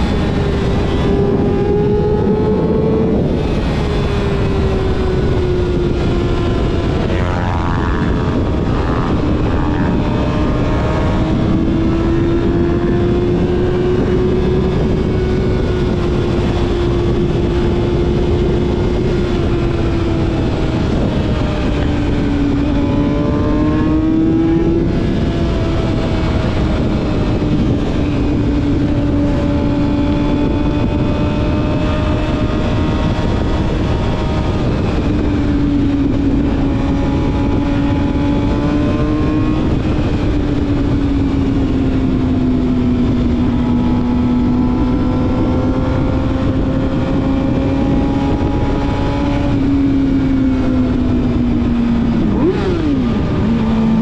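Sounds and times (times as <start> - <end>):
heavy wind rush: 0.0 - 54.0
motorcycle engine running: 0.0 - 54.0.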